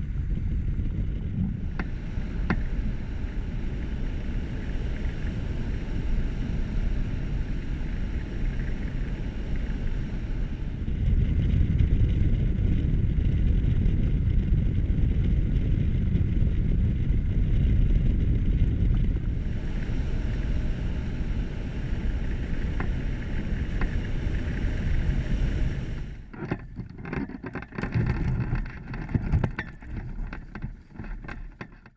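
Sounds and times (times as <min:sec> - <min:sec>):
wind rushing on microphone: 0:00.0 - 0:31.8.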